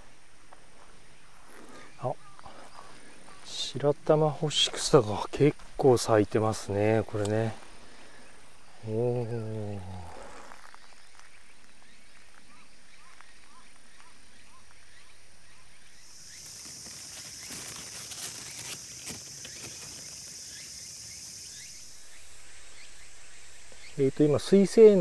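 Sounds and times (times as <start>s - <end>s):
high insect drone: 0.0s - 25.0s
faint chirps: 0.8s - 5.6s, 6.4s - 25.0s.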